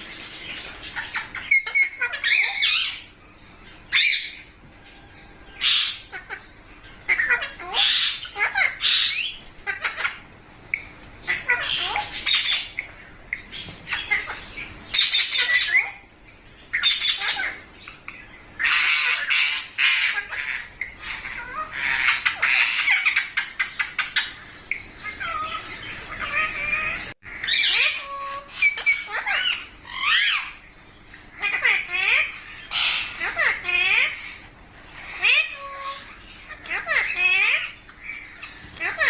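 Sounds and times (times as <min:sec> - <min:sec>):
parakeets squawking: 0:00.0 - 0:39.0.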